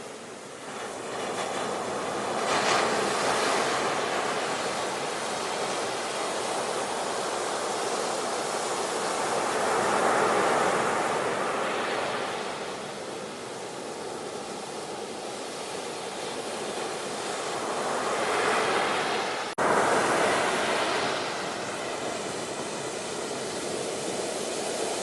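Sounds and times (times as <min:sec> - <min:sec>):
ocean waves washing in: 0:00.0 - 0:25.0.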